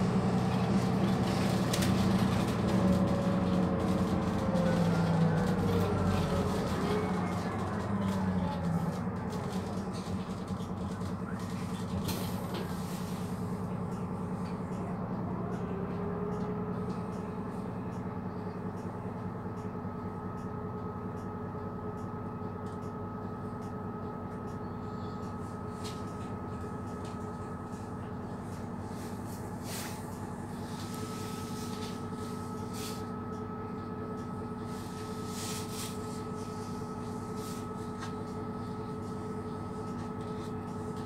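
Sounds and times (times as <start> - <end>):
bus engine low hum: 0.0 - 41.0.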